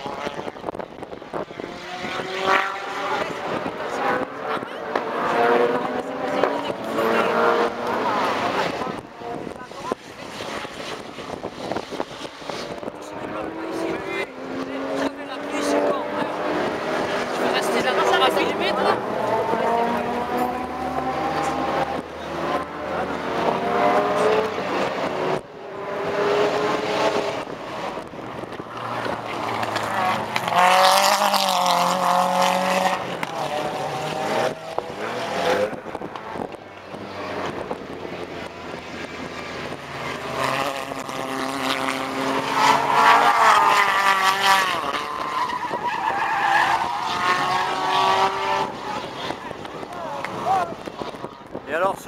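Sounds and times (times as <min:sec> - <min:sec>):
racing car engines revving: 0:00.0 - 0:52.0.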